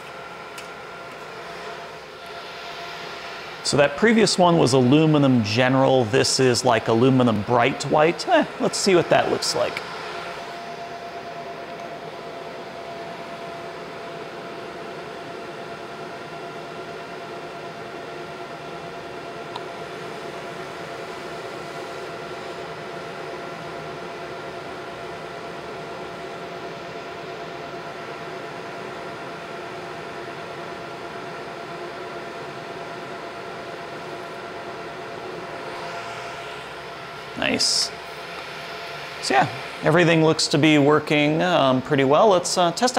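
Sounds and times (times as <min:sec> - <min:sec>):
fan whir and hiss: 0:00.0 - 0:42.9
mid-pitched hum tone: 0:00.0 - 0:42.9.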